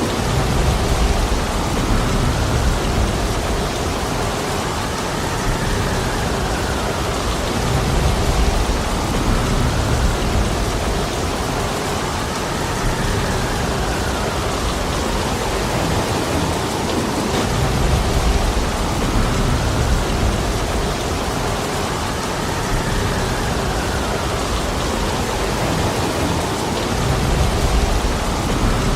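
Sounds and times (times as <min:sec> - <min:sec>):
heavy rain falling: 0:00.0 - 0:28.9
strong wind: 0:00.0 - 0:28.9.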